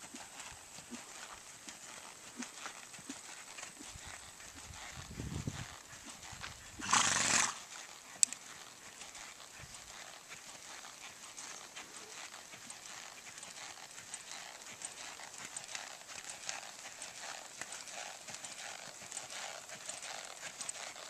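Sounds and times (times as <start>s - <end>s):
muffled hoofbeats on sand: 0.0s - 21.0s
horse snorting: 0.1s - 21.0s.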